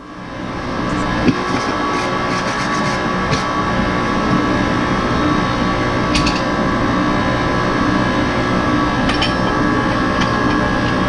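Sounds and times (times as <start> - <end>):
workshop machinery droning: 0.0 - 11.0.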